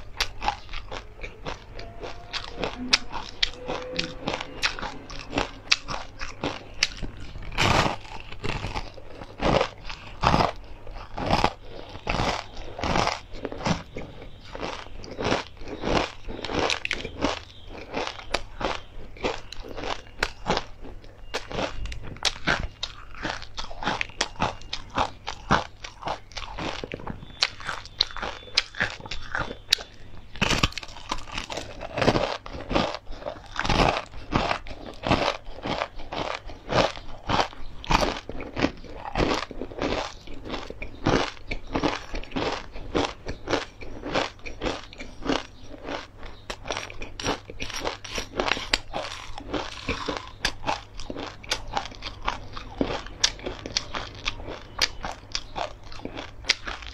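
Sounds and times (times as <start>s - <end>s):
crunchy chewing of fried food: 0.0s - 56.9s.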